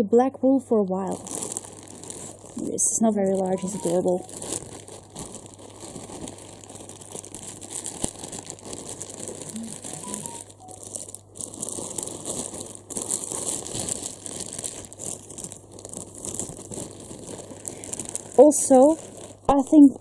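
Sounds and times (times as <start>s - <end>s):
plastic bag crinkling: 0.9s - 20.0s.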